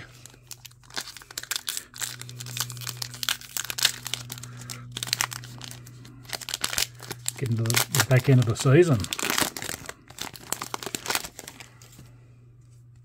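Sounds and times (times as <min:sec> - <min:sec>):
plastic wrapper crinkling and tearing: 0:00.0 - 0:12.2
low steady hum: 0:00.0 - 0:13.0.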